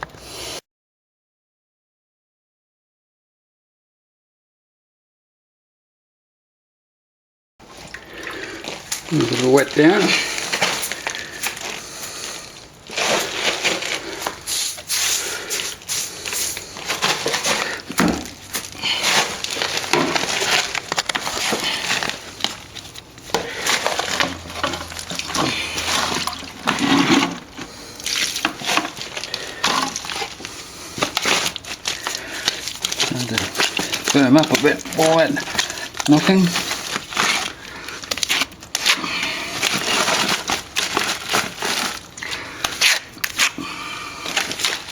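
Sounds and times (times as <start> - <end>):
wet swishing on plaster wall: 7.8 - 44.9.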